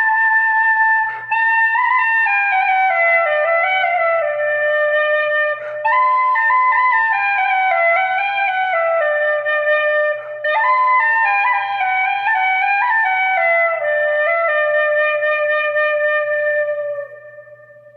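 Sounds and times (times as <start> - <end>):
flute playing slow melody: 0.0 - 17.9.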